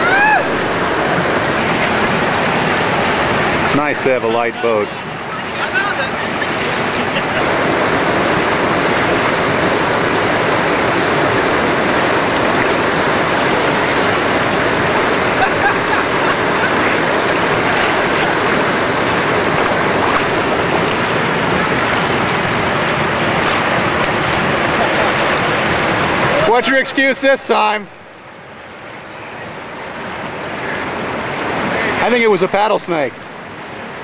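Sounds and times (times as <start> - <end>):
whitewater rushing over rocks: 0.0 - 34.0.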